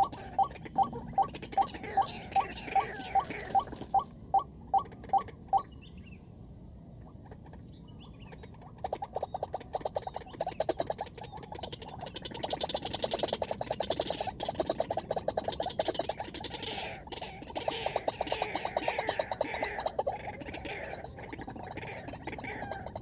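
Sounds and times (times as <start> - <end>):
waterhen calling: 0.0 - 5.7, 9.6 - 23.0.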